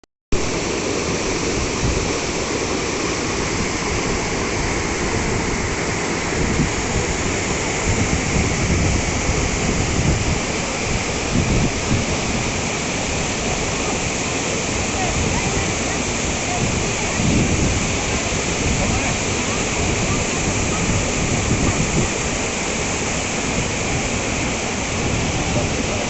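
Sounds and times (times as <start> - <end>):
waterfall rushing: 0.3 - 26.0.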